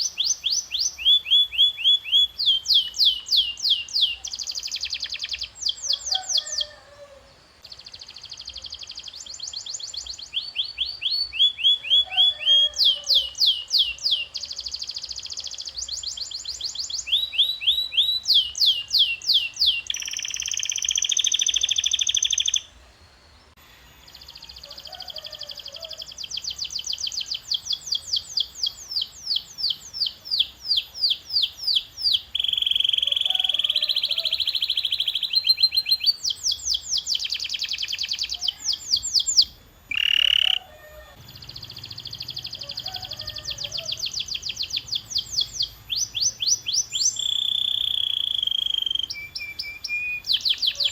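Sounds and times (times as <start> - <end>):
canary singing trills: 0.0 - 22.7, 23.8 - 50.9.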